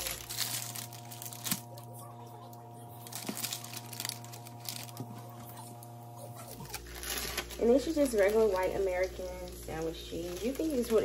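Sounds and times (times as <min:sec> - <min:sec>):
electrical hum: 0:00.0 - 0:11.0
light crinkling: 0:00.0 - 0:11.0.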